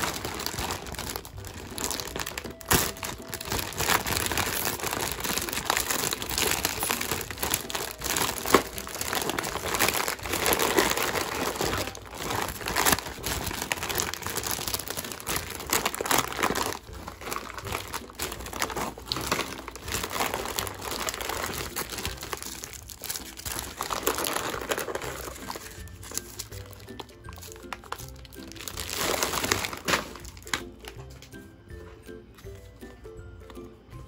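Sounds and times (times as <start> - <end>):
snack packets crinkling: 0.0 - 31.3.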